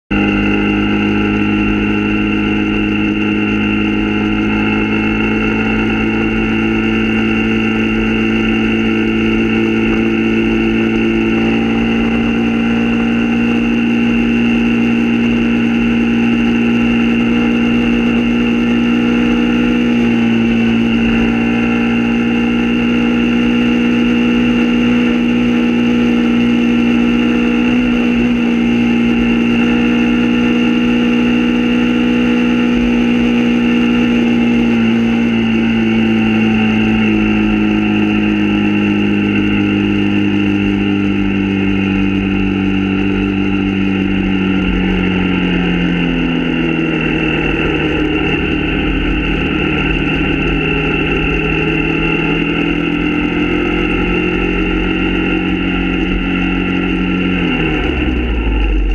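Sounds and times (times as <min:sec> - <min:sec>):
motorbike engine cruising: 0:00.0 - 0:58.9.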